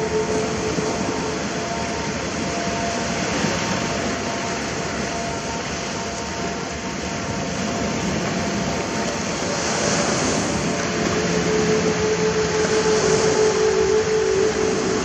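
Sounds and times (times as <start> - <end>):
faint steady hum: 0.0 - 15.0
ocean surf washing on shore: 0.0 - 15.0.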